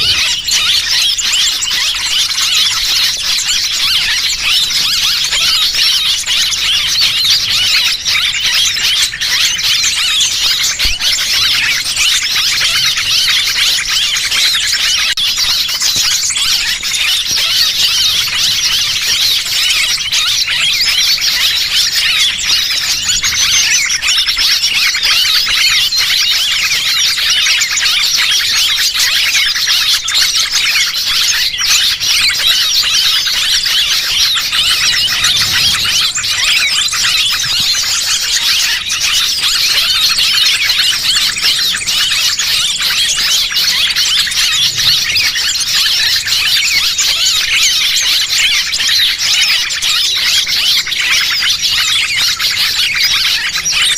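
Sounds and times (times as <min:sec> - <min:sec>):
small birds chirping and squeaking: 0:00.0 - 0:53.9.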